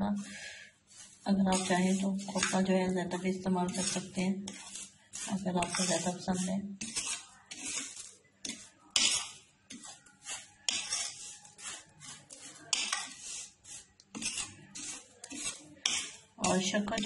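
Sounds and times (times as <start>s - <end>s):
metal spoon scraping bowl: 0.2s - 17.0s.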